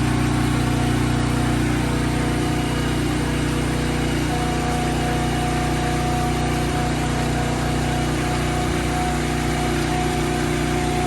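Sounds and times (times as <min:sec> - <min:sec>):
engine running low hum: 0:00.0 - 0:11.0
thin steady whine: 0:00.0 - 0:11.0.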